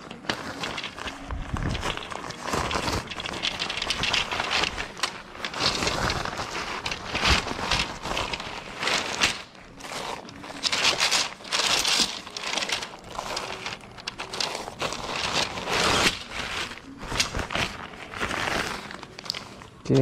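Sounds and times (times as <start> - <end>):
nylon bag rustling: 0.0 - 20.0.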